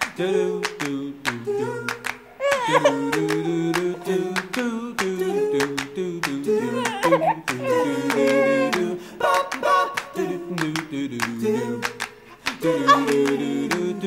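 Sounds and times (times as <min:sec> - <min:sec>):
wordless sung melody: 0:00.0 - 0:14.0.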